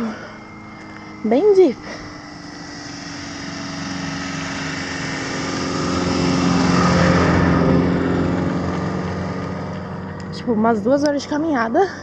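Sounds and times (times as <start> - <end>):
vehicle engine approaching: 0.0 - 12.0.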